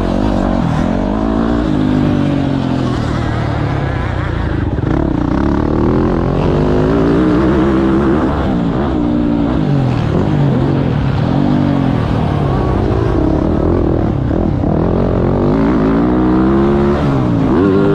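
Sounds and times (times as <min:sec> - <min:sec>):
motocross bike engine revving: 0:00.0 - 0:17.9.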